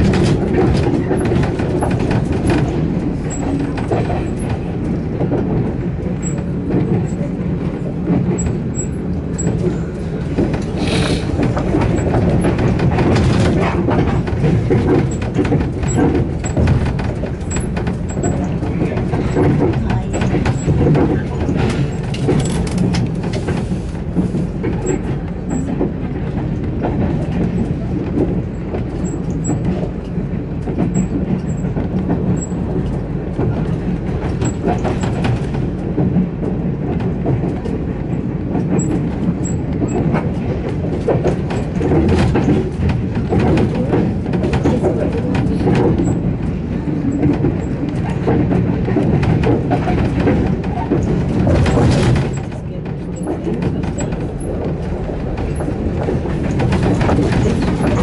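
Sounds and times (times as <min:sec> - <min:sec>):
clicks and knocks from track: 0:00.0 - 0:58.0
train wheels rumbling: 0:00.0 - 0:58.0.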